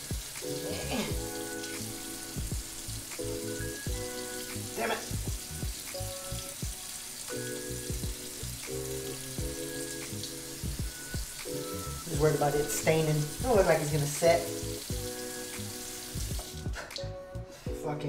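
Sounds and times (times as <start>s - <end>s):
background music with deep drums: 0.0s - 6.9s, 7.7s - 12.4s, 13.2s - 13.8s, 14.6s - 18.0s
steady hiss: 0.0s - 16.6s.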